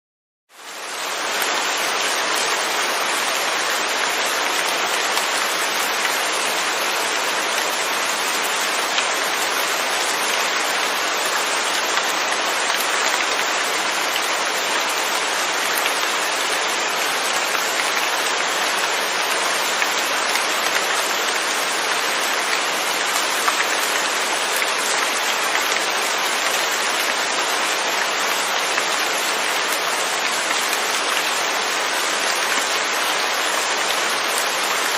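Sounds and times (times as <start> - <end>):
steady rain hiss: 0.5 - 34.9.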